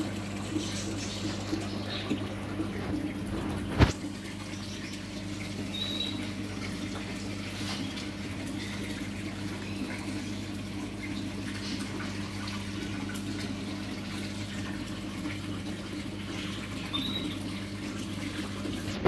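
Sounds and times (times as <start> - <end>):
low electrical hum: 0.0 - 19.0
water trickling: 0.0 - 19.0.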